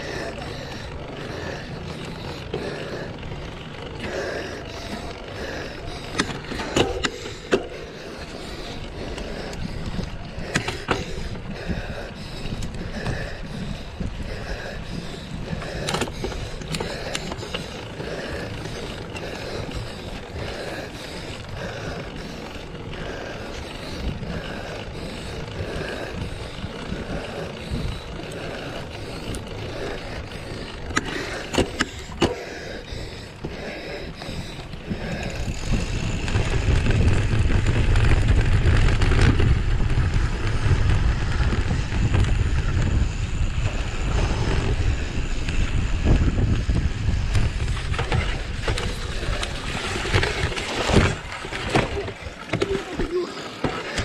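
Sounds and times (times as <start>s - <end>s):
wind buffeting microphone: 0.0s - 53.2s
bike tyres and frame rattling: 0.0s - 54.0s.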